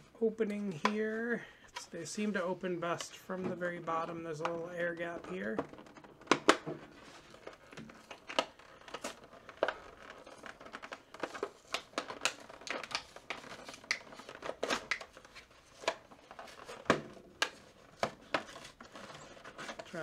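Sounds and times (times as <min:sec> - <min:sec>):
plastic blister pack crackling: 0:00.4 - 0:20.0.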